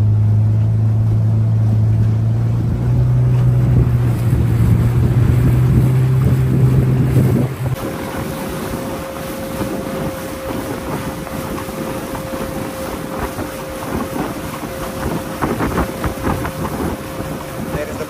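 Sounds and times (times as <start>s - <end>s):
motorboat engine running: 0.0s - 18.0s
wind on microphone: 0.0s - 18.0s.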